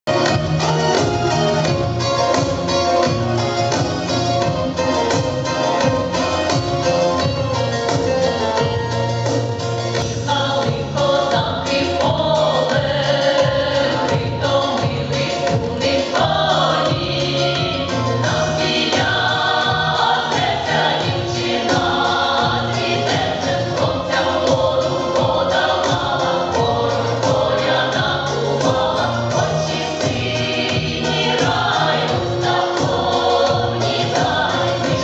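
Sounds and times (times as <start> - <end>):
mixed choir singing folk song: 0.1 - 35.0.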